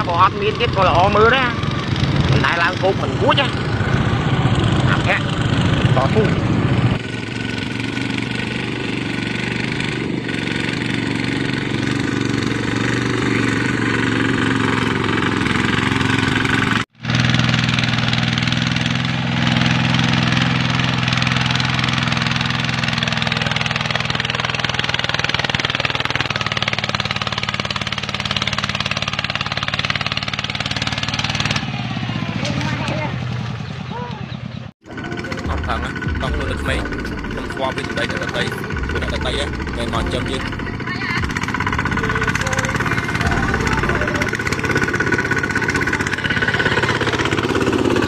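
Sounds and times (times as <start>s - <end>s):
tractor engines running under load: 0.0s - 48.0s
two-wheel tractor engine running: 0.0s - 48.0s.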